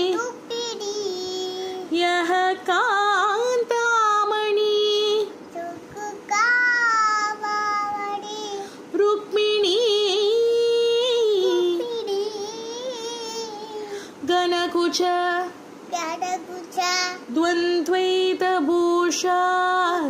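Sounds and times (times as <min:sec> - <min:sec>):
girl singing unaccompanied: 0:00.0 - 0:20.0.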